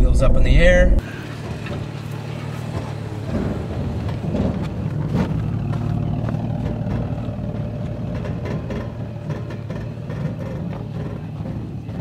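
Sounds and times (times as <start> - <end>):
suv engine at low speed: 0.0 - 12.0
brake clicks and knocks: 1.4 - 12.0.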